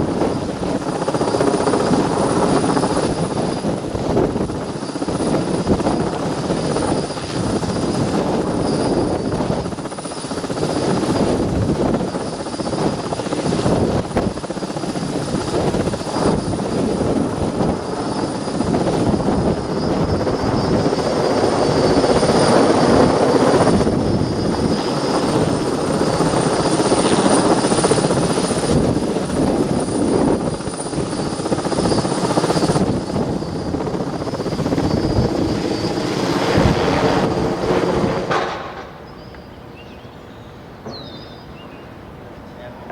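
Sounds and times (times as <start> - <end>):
helicopter rotor chop: 0.0 - 39.5
turbine whine: 0.0 - 42.9.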